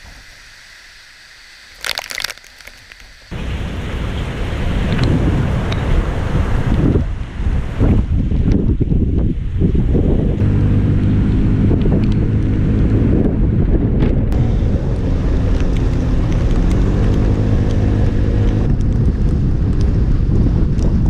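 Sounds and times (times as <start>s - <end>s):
wind buffeting microphone: 3.3s - 21.0s.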